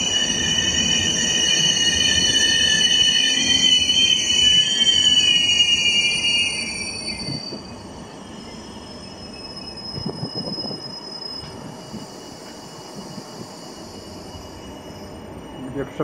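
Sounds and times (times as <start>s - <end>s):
faint high brake squeal: 0.0s - 16.0s
train wheels rumbling on rail: 0.0s - 16.0s.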